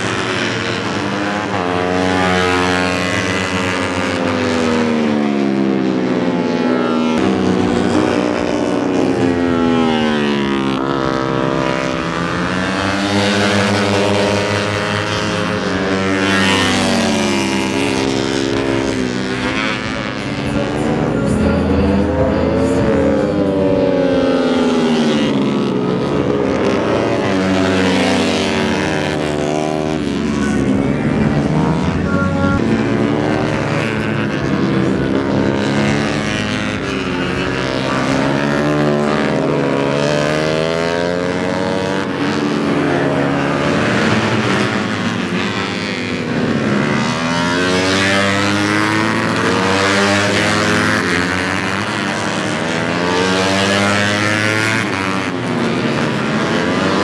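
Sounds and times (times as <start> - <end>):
racing motorcycles revving: 0.0 - 57.0.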